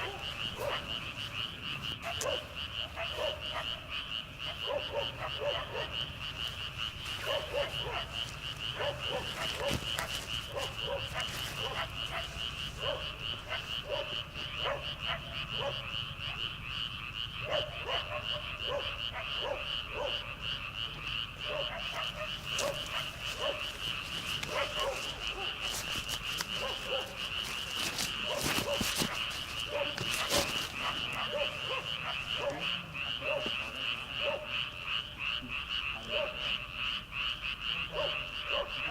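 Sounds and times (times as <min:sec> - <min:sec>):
frogs high trilling: 0:00.0 - 0:38.9
low frog croaks: 0:00.0 - 0:38.9.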